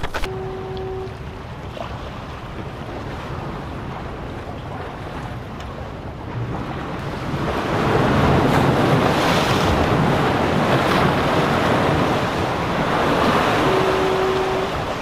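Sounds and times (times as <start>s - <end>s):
surf washing against rocks: 0.0s - 15.0s.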